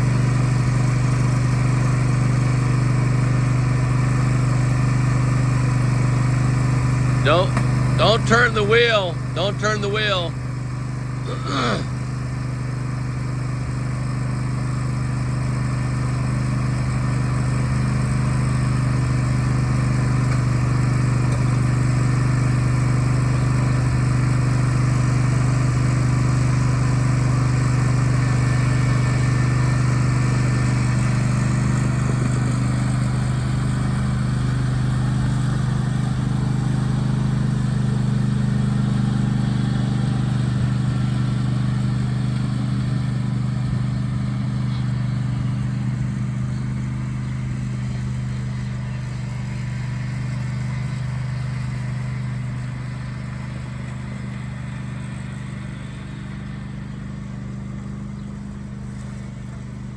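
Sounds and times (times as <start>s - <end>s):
riding lawnmower engine running: 0.0s - 59.9s.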